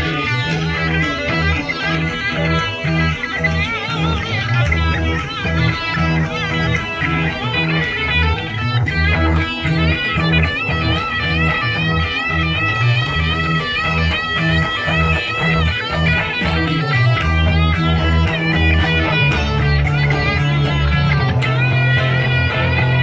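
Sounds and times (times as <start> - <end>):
electric guitar: 0.0 - 23.0
pulsing bass guitar: 0.0 - 23.0.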